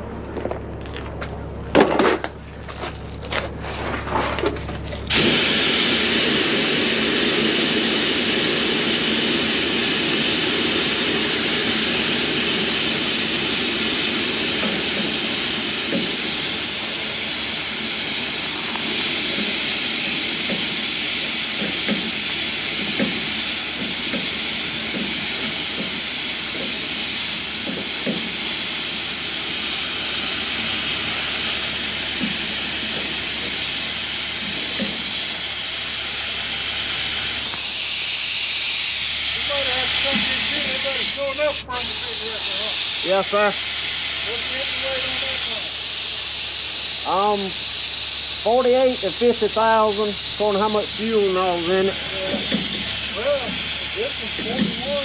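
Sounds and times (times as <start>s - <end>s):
loud steady hiss: 5.1s - 55.0s.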